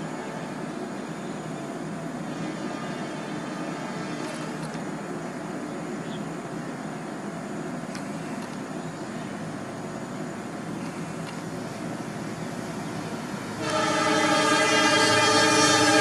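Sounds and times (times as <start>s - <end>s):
locomotive diesel engine drone: 0.0s - 16.0s.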